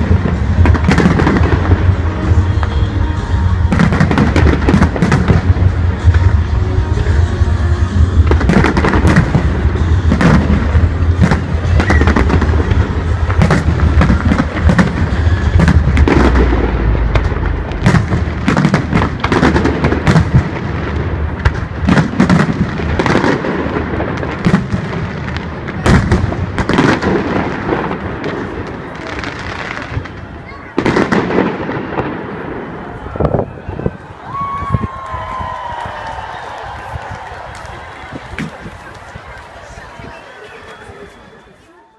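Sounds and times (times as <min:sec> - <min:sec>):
fireworks bangs: 0:00.0 - 0:41.6.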